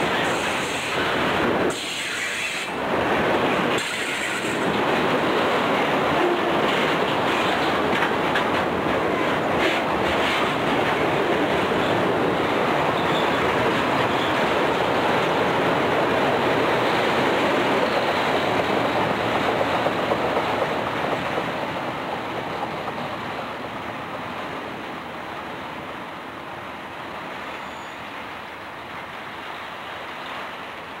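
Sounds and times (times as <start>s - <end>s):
freight cars rolling on rails: 0.0s - 25.9s.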